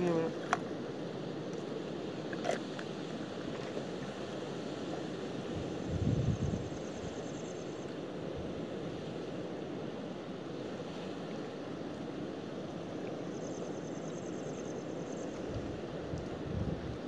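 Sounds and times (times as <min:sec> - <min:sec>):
sea surf on rocky shore: 0:00.0 - 0:17.0
wind: 0:00.0 - 0:17.0.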